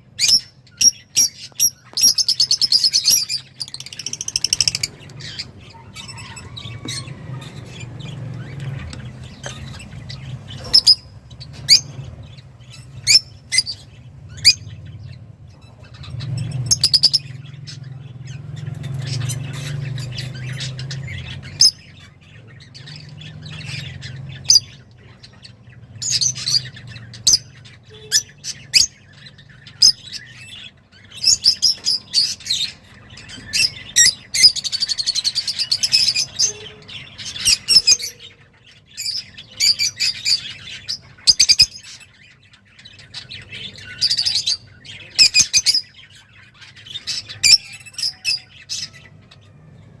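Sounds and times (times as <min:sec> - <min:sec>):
finch chirping: 0:00.0 - 0:50.0.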